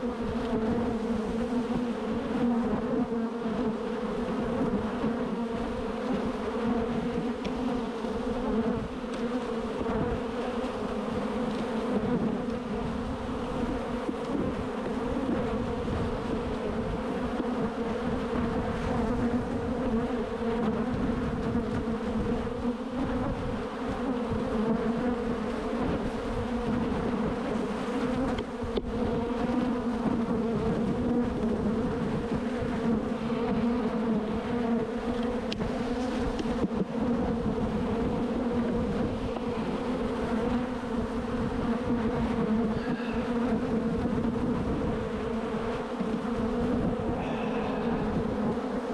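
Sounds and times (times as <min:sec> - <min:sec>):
bees buzzing: 0:00.0 - 0:48.9.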